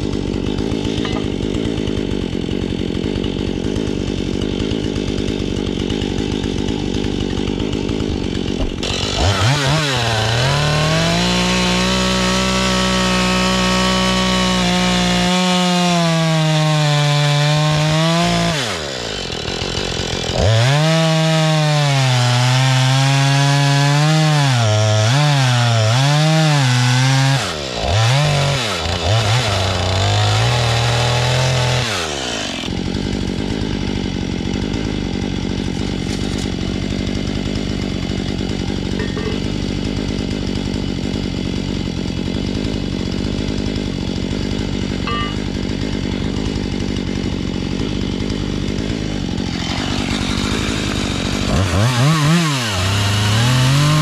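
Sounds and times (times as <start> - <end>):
chainsaw cutting boards: 0.0 - 54.0
chainsaw engine idling: 0.0 - 54.0.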